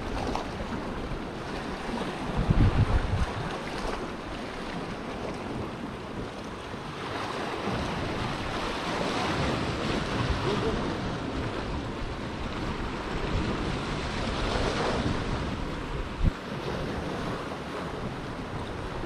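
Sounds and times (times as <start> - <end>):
waves washing against rocks: 0.0 - 19.0
wind buffeting microphone: 0.0 - 19.0.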